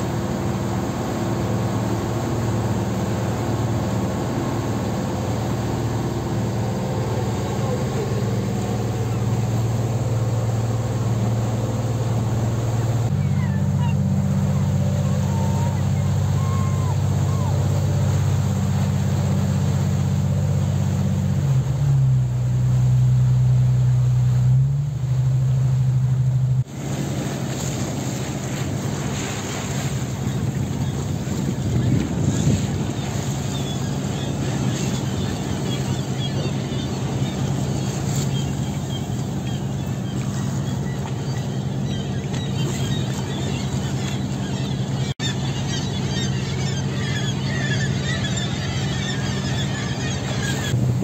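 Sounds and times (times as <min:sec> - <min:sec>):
seabirds calling: 0:00.0 - 0:21.6, 0:26.9 - 0:51.0
motorboat engine humming: 0:00.0 - 0:51.0
sea wash: 0:00.0 - 0:51.0
wind: 0:00.0 - 0:51.0.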